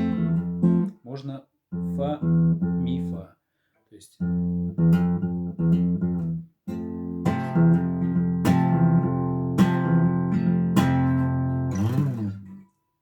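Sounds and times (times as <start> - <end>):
acoustic guitar playing: 0.0 - 3.2, 4.2 - 12.9.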